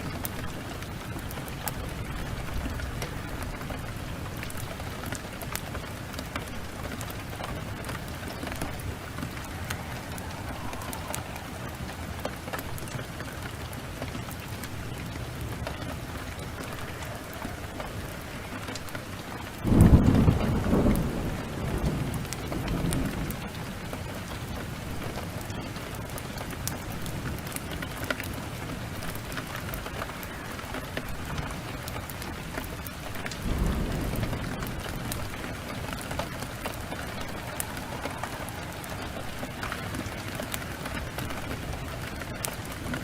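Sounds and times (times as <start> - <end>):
steady downpour of rain: 0.0 - 43.0
wood fire crackling and popping: 0.0 - 43.0.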